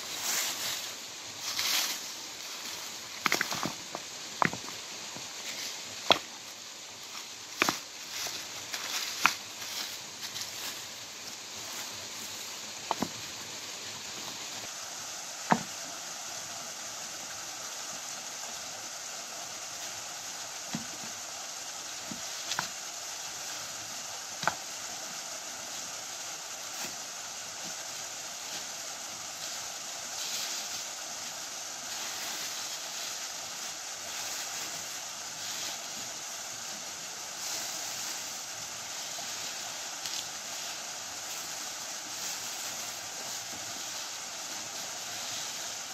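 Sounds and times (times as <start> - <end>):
waterfall rushing over rocks: 0.0 - 45.9.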